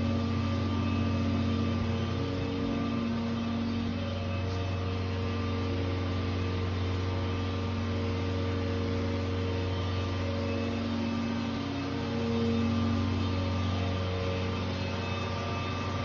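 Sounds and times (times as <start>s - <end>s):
mechanical drone with hum: 0.0s - 16.0s.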